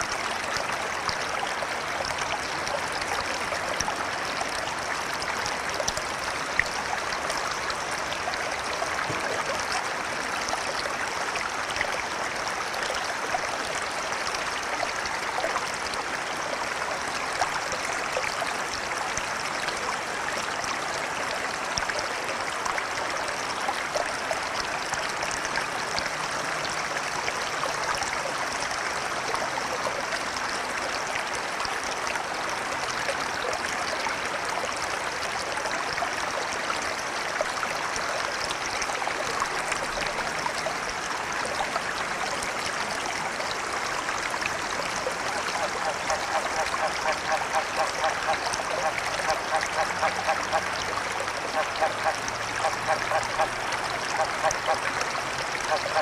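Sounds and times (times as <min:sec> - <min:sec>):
river water rushing: 0:00.0 - 0:56.0
small water splashes: 0:00.0 - 0:56.0.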